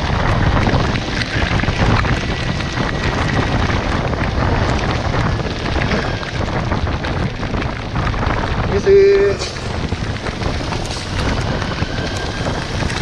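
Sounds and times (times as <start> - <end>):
motorcycle engine and road rumble: 0.0 - 13.0
wind rushing over microphone: 0.0 - 13.0.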